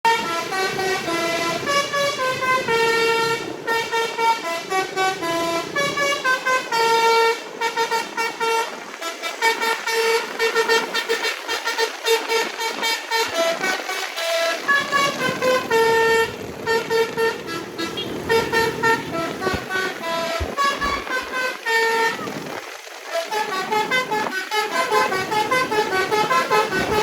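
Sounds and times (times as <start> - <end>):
bus musical horn tune: 0.1 - 22.3, 23.1 - 27.0.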